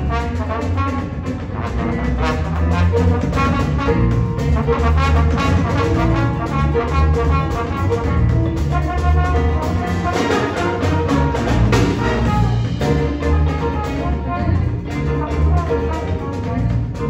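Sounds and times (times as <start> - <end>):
drums: 0.0 - 17.0
horns: 0.0 - 17.0
piano: 0.0 - 17.0
repeating bass line: 0.0 - 17.0.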